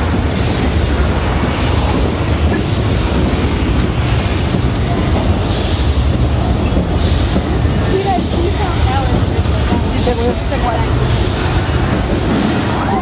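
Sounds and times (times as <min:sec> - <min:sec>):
tram rumbling and rattling: 0:00.0 - 0:13.0.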